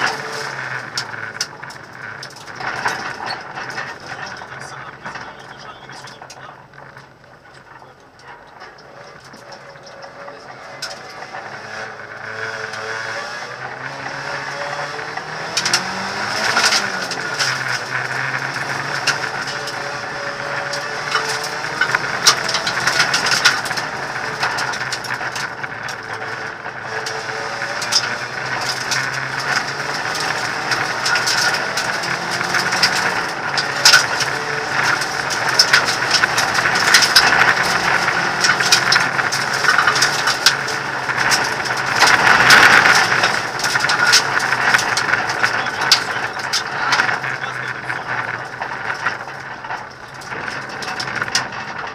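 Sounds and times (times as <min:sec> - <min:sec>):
car engine revving: 0:00.0 - 0:51.9
gravel clattering on underbody: 0:00.0 - 0:51.9.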